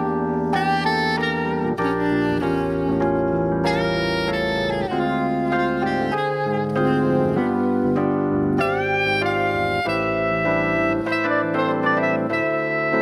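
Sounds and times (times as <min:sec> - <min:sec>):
piano chords: 0:00.0 - 0:13.0
saxophone playing long notes: 0:00.0 - 0:13.0.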